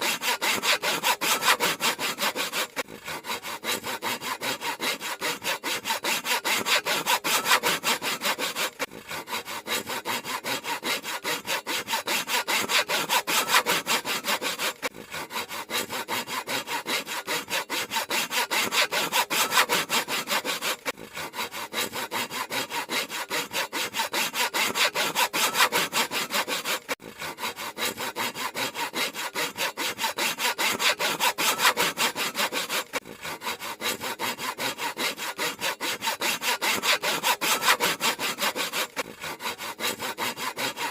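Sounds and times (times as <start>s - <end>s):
handsaw cutting wood: 0.0s - 40.9s.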